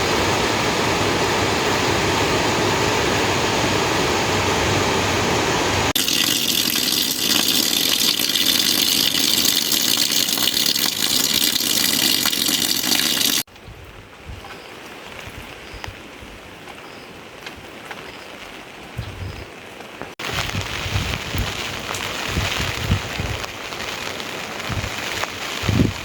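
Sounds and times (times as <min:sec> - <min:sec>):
hissing downpour of rain: 0:00.0 - 0:13.5, 0:18.4 - 0:26.0
rushing water: 0:00.0 - 0:13.5, 0:14.6 - 0:26.0.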